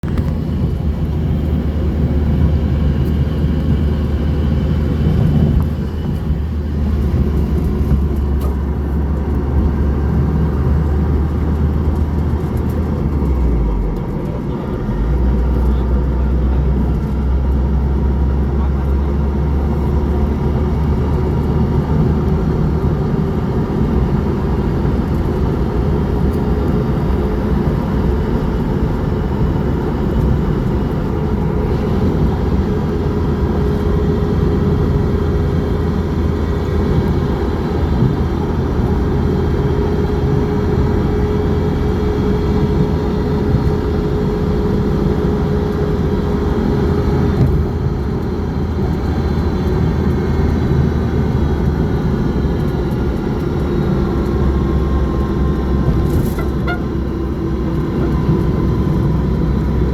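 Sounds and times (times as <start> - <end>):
moving vehicle rumble: 0.0 - 59.9.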